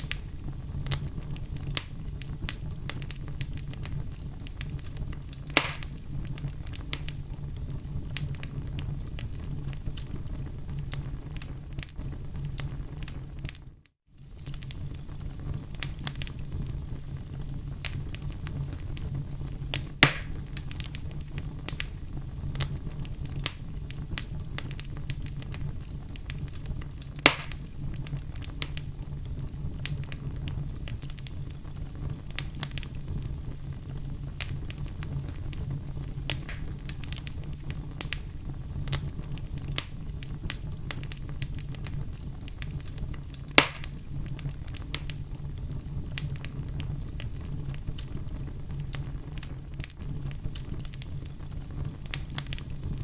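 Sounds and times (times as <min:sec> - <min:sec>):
fire crackling and popping: 0:00.0 - 0:53.0
loud fire snaps: 0:00.0 - 0:53.0
low rumble of fire: 0:00.0 - 0:53.0.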